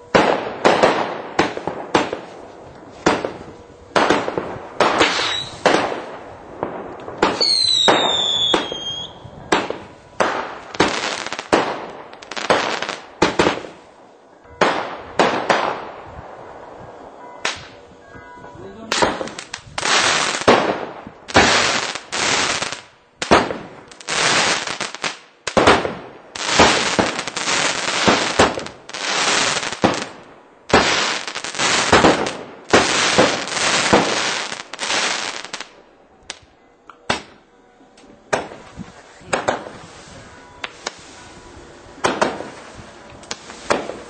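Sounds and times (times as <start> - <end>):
fireworks bangs and crackling: 0.0 - 17.8, 18.9 - 36.5, 37.1 - 37.4, 38.3 - 44.0.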